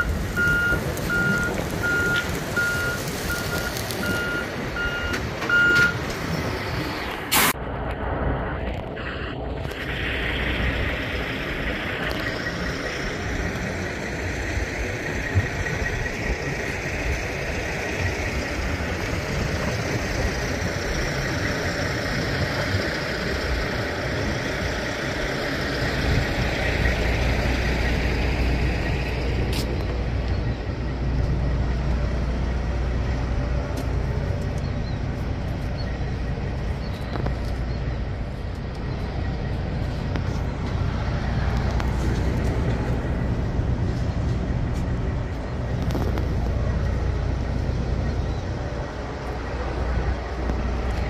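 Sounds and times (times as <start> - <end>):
diesel truck engine idling: 0.0 - 6.8, 7.6 - 51.0.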